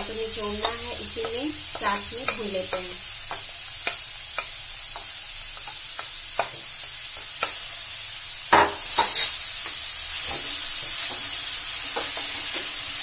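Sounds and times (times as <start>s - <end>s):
carrots sizzling in pan: 0.0s - 13.0s.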